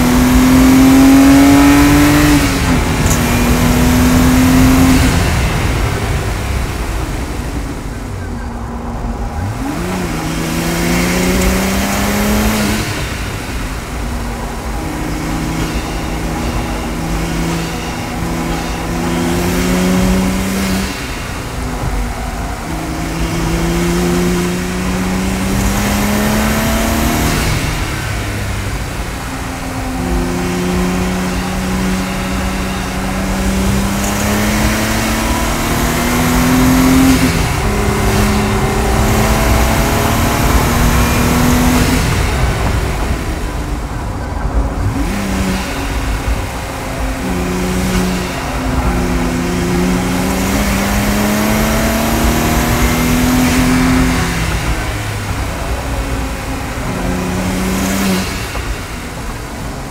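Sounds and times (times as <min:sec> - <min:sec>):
car engine accelerating hard: 0:00.0 - 0:59.9
wind and road noise: 0:00.0 - 0:59.9.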